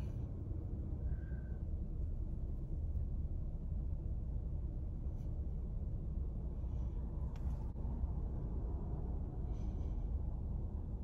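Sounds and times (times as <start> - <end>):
low rumble inside car: 0.0 - 11.0.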